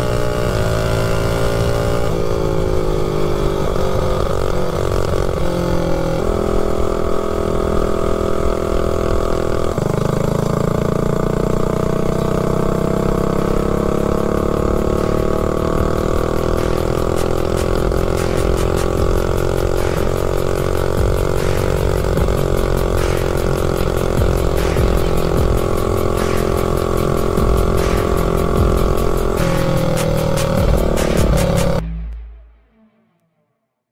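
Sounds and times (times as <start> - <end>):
small engine running under throttle: 0.0 - 31.8.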